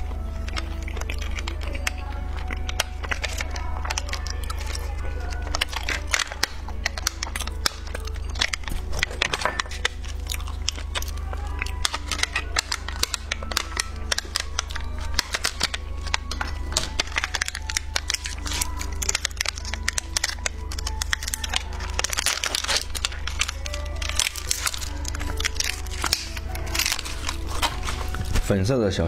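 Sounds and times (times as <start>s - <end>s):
faint background music: 0.0s - 29.0s
hard candy crunching: 0.0s - 29.0s
plastic wrappers crinkling: 0.0s - 29.0s.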